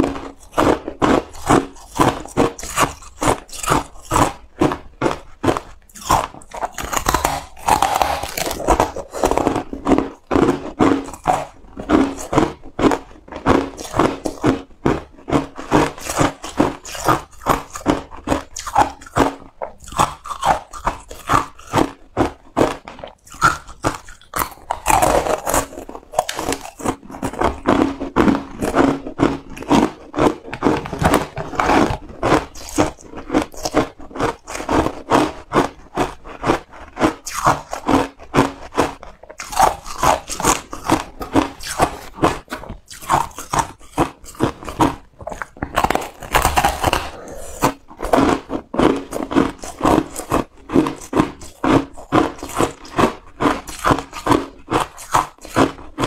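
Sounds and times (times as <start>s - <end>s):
person crunching shaved ice: 0.0s - 56.0s.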